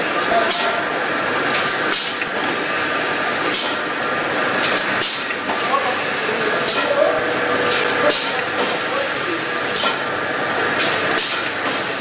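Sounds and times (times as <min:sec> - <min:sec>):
machine noise: 0:00.0 - 0:12.0.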